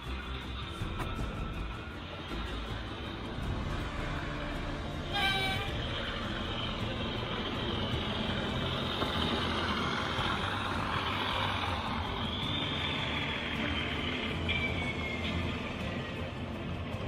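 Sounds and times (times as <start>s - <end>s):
diesel locomotive engine running: 0.0s - 17.0s
high whine: 0.0s - 17.0s.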